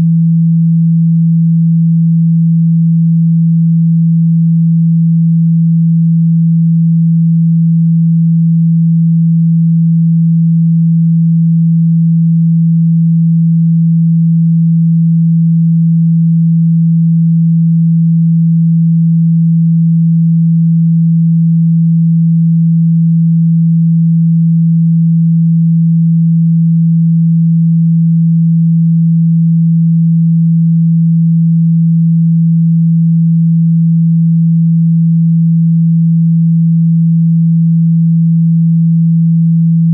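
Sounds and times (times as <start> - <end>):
low sine-wave hum: 0.0 - 39.9.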